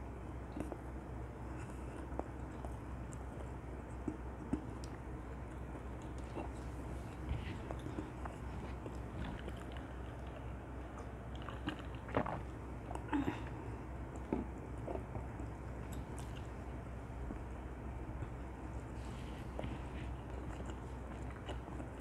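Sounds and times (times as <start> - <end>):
chewing and biting crispy chicken: 1.6 - 13.1, 13.9 - 22.0.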